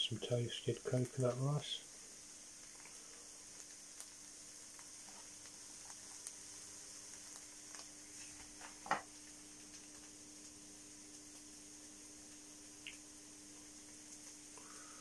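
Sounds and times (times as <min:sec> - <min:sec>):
faint steady hum: 0:00.0 - 0:15.0
food sizzling in a pan: 0:00.0 - 0:15.0.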